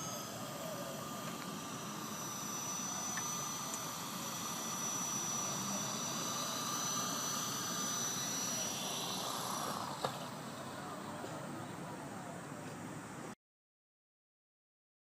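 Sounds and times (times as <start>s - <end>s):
rc helicopter motor whining: 0.0s - 13.1s.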